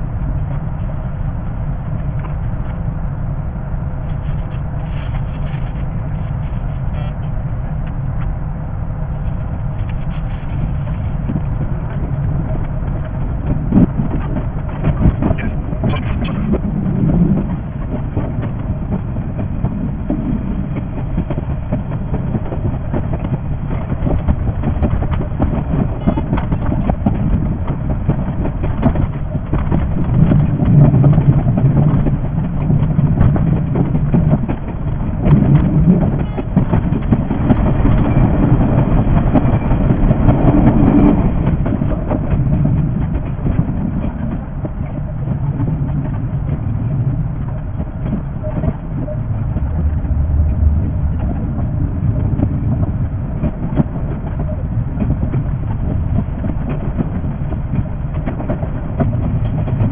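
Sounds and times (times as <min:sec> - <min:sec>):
low train rumble: 0:00.0 - 0:59.9
train wheels clattering over rails: 0:09.7 - 0:59.9.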